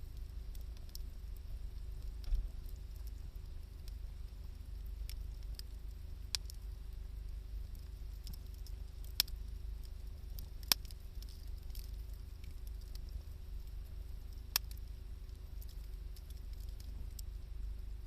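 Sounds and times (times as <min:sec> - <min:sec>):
campfire crackling and popping: 0:00.0 - 0:18.0
low fire rumble: 0:00.0 - 0:18.0.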